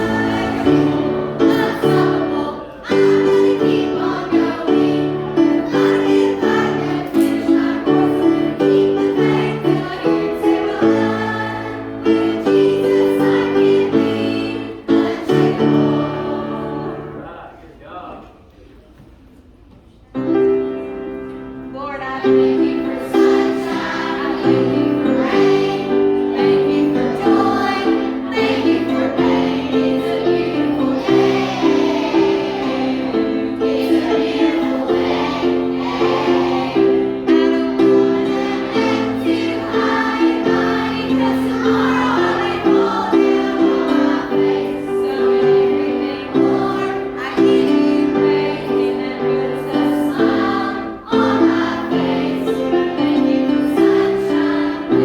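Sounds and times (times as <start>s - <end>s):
children and adults singing: 0.0s - 17.4s, 22.1s - 55.0s.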